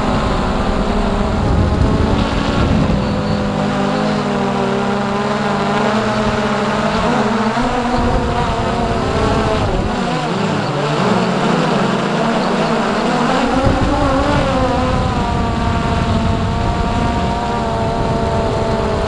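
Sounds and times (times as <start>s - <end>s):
drone motors whirring: 0.0s - 19.0s.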